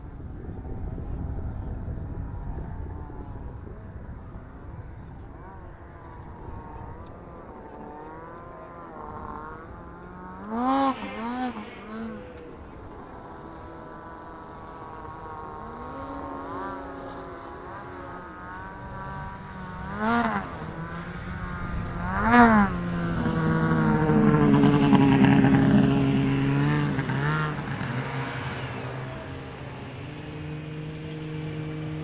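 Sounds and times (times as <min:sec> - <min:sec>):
snowmobile engine idling and revving: 0:00.1 - 0:32.0.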